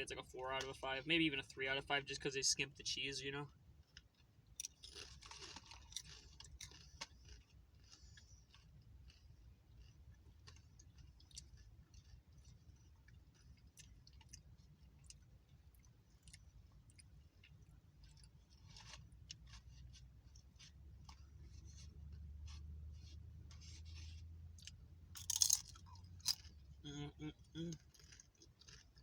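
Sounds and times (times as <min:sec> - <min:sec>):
crunching tortilla chips: 0:03.9 - 0:26.7, 0:27.6 - 0:29.0.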